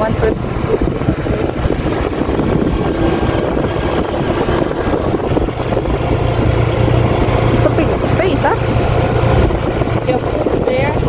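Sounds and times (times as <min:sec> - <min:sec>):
low hum: 0:00.0 - 0:11.0
road noise: 0:00.0 - 0:11.0
vehicle engine rumble: 0:00.0 - 0:11.0.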